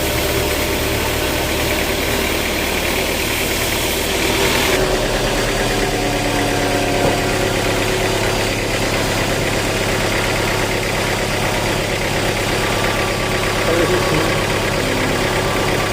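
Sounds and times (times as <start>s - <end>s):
engine idling: 0.0s - 15.9s.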